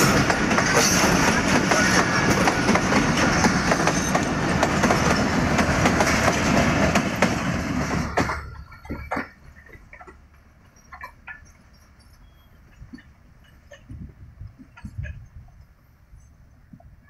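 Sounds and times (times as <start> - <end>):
wheels clicking over rail joints: 0.0 - 15.8
train wheels rumbling on rails: 0.0 - 17.0.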